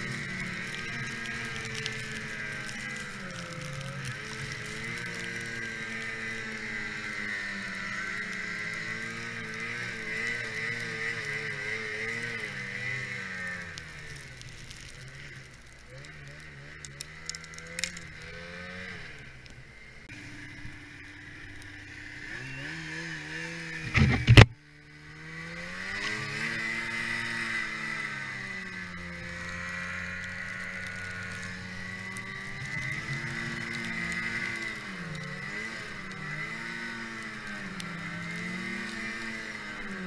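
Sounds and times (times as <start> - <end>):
snowmobile engine running: 0.0 - 40.0.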